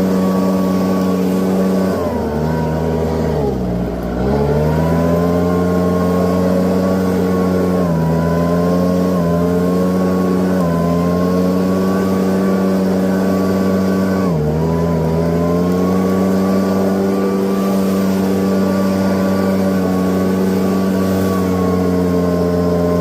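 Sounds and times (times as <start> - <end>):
leaf blower whining: 0.0 - 23.0.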